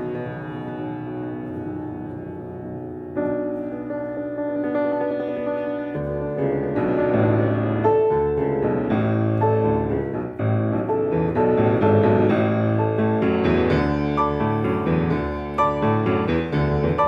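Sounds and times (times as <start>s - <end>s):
piano piece: 0.0s - 17.0s.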